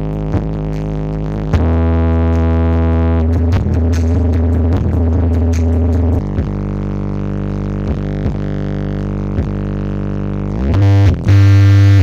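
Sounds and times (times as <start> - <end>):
buzzing electronic drone from speakers: 0.0 - 12.0.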